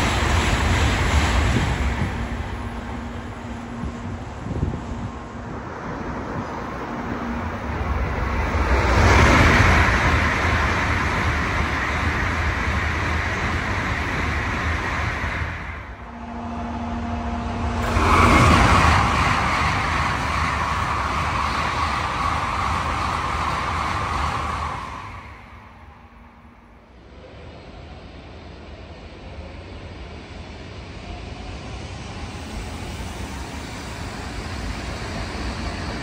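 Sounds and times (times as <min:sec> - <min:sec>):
bullet train rushing past: 0:00.0 - 0:36.0.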